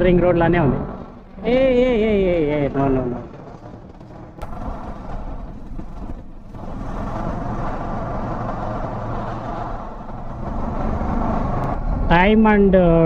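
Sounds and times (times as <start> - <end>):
motorcycle engine running: 0.0 - 12.4
wind and road noise: 0.0 - 13.0.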